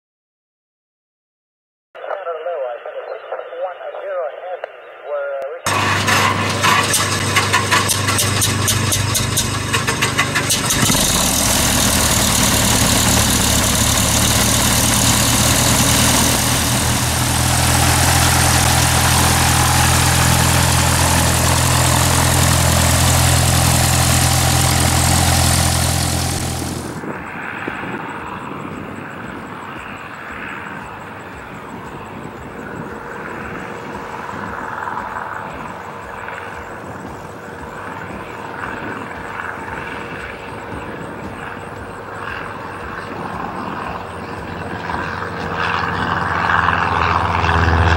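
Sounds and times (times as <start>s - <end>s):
aircraft engine running: 5.7s - 47.9s
distant aircraft engine: 5.7s - 47.9s.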